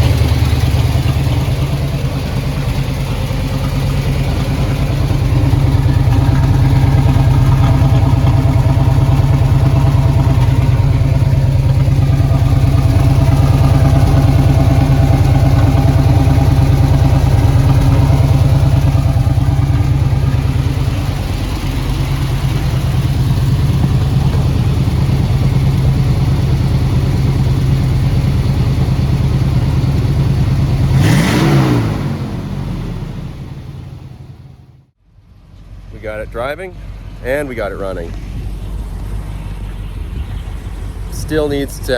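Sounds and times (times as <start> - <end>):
engine revving: 0.0 - 34.6
car engine idling: 0.0 - 41.9.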